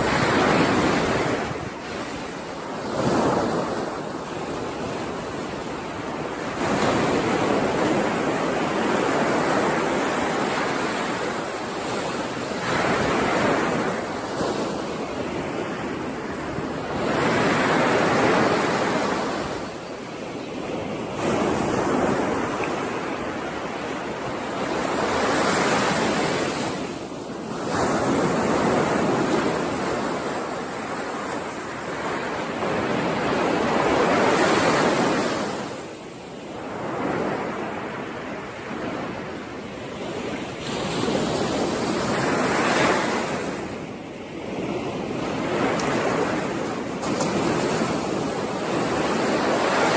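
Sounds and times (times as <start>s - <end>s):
sea waves breaking: 0.0s - 49.9s.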